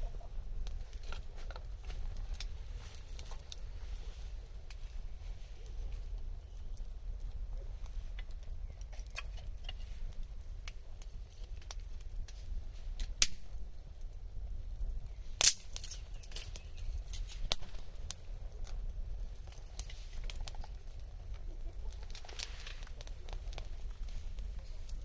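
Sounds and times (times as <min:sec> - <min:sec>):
low steady rumble: 0:00.0 - 0:25.0
wood fire crackling and popping: 0:00.0 - 0:25.0.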